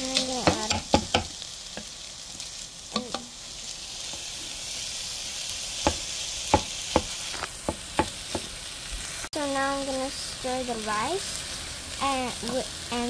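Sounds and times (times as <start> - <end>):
fried rice sizzling in a pot: 0.0 - 13.0.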